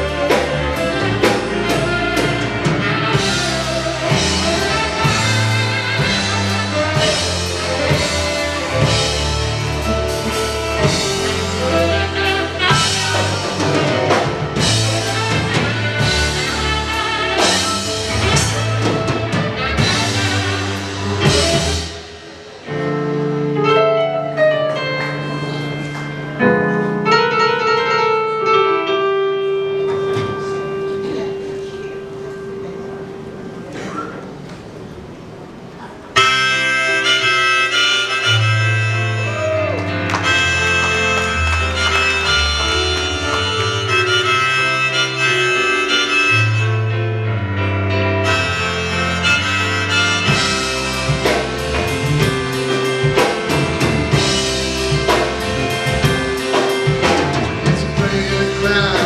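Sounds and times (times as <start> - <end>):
saxophone solo: 0.0 - 26.0, 36.1 - 59.0
drums: 0.0 - 59.0
live rock band playing: 0.0 - 59.0
piano: 0.0 - 59.0.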